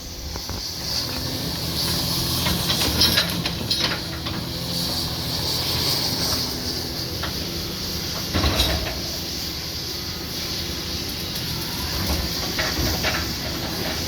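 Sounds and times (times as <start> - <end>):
heavy machine diesel engine: 0.0 - 14.0
high hiss: 0.0 - 14.0.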